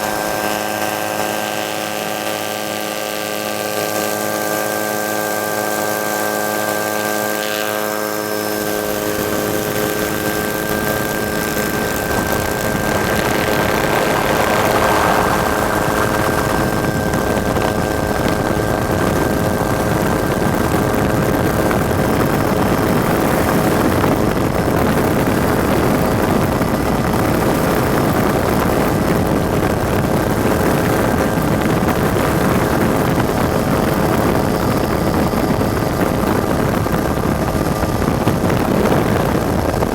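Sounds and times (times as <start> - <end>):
helicopter running: 0.0 - 39.9.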